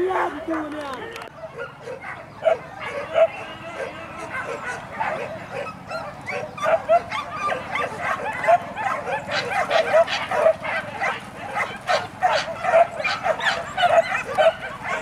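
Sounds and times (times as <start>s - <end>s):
dogs yelping and barking: 0.0s - 15.0s.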